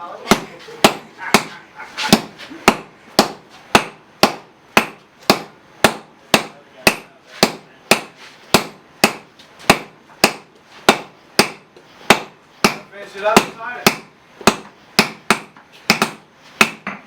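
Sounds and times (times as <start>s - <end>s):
sledgehammers striking steel on anvil: 0.2s - 17.0s.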